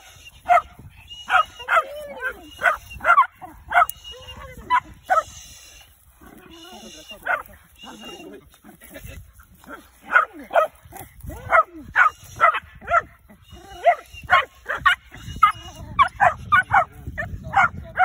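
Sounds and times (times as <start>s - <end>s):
dogs barking: 0.4s - 5.4s, 7.0s - 8.2s, 9.6s - 18.0s.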